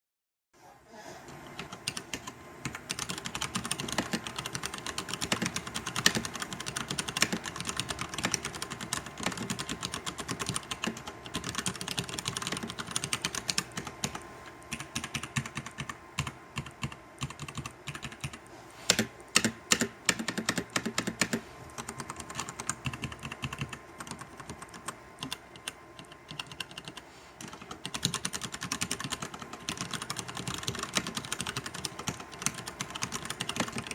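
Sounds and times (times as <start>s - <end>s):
mechanical keyboard typing: 1.6s - 33.9s.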